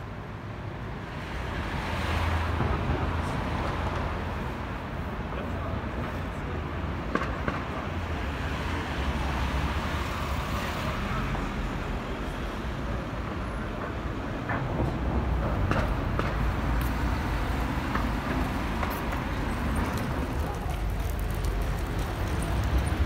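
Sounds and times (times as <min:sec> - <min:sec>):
cars passing: 0:00.1 - 0:23.0.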